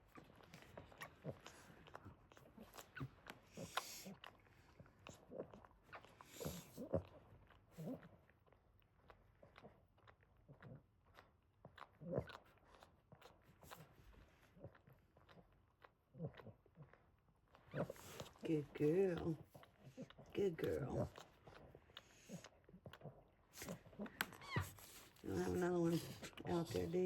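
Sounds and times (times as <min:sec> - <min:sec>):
dog licking puppies: 0:00.0 - 0:27.0.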